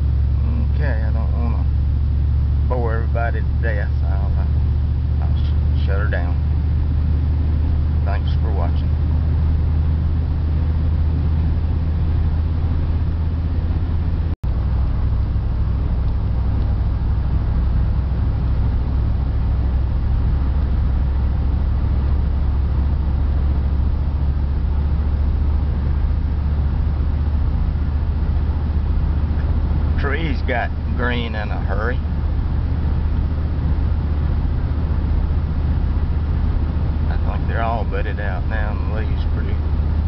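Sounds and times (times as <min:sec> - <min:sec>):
in-cab engine drone: 0:00.0 - 0:40.0
tyre and road noise: 0:00.0 - 0:40.0.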